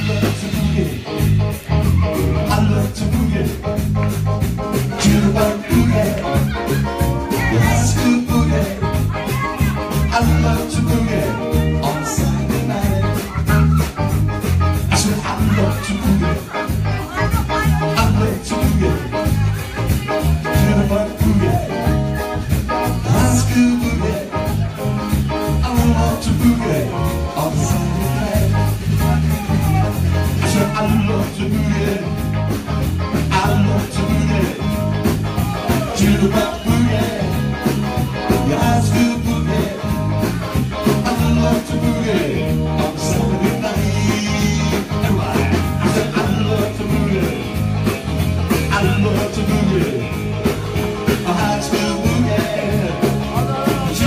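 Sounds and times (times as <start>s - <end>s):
bass line: 0.0s - 54.0s
drum kit beat: 0.0s - 54.0s
electric guitar: 0.0s - 54.0s
rock band playing: 0.0s - 54.0s.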